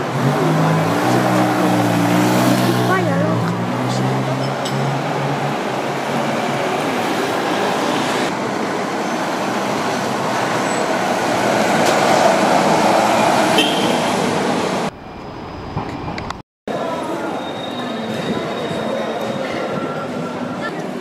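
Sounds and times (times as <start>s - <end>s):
bus passing: 0.0s - 21.0s
street traffic: 0.0s - 21.0s.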